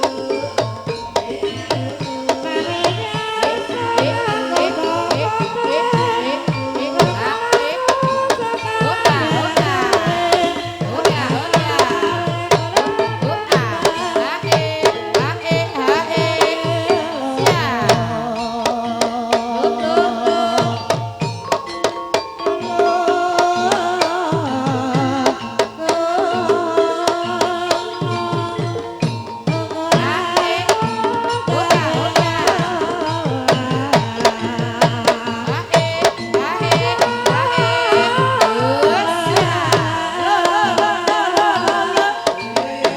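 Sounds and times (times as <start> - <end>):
hand drums beating fast rhythm: 0.0 - 42.9
person singing: 0.0 - 42.9
tuned gamelan instruments: 0.0 - 42.9.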